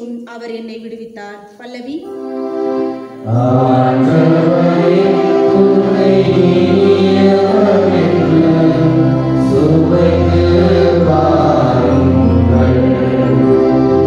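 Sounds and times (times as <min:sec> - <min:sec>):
sustained instrumental accompaniment: 0:02.0 - 0:14.0
psalm sung in held notes: 0:02.6 - 0:14.0.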